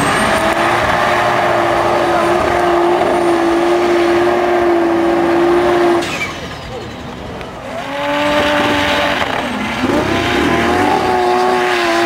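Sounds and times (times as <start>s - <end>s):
engine revving at full throttle: 0.0s - 6.4s, 7.5s - 12.0s.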